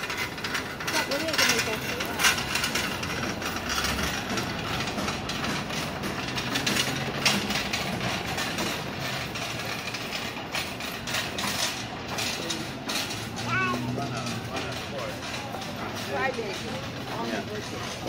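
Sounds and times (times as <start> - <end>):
low engine rumble: 0.0 - 18.0
street noise: 0.0 - 18.0.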